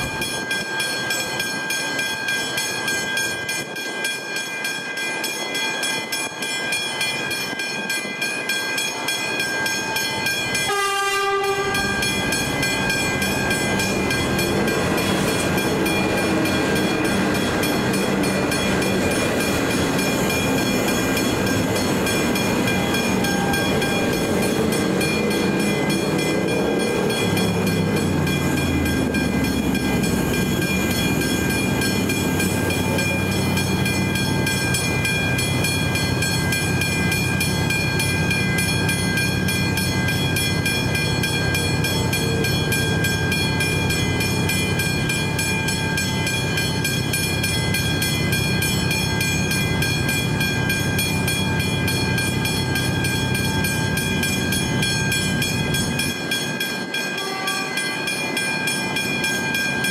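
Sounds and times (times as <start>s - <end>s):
level crossing bells ringing: 0.0s - 59.9s
train wheels rumbling: 0.0s - 59.9s.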